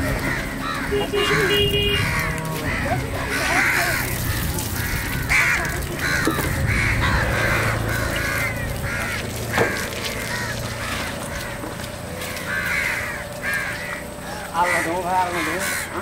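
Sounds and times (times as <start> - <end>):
birds harsh calls: 0.0 - 16.0.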